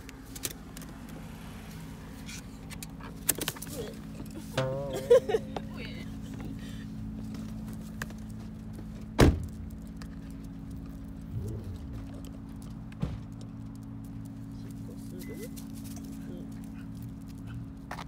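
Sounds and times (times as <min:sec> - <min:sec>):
vehicle engines idling: 0:00.0 - 0:18.0.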